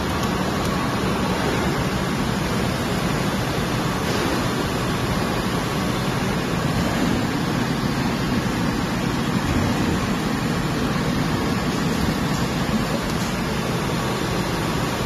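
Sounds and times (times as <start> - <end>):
blow-molding machine running: 0.0 - 15.0.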